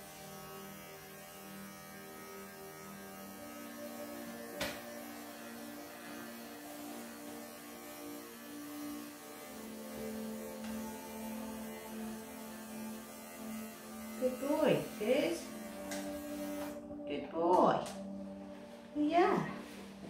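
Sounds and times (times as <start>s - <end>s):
electric pet clippers humming: 0.0s - 18.5s.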